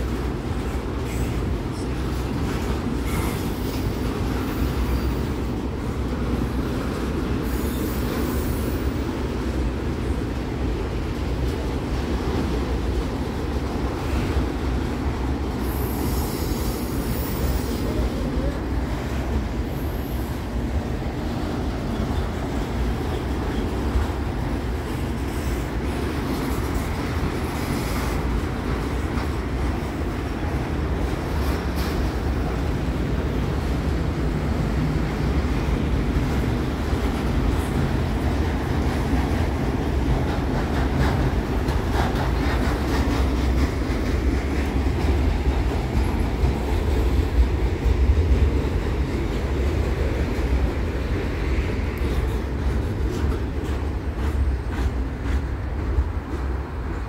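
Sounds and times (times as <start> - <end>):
train rumbling over bridge: 0.0 - 57.0.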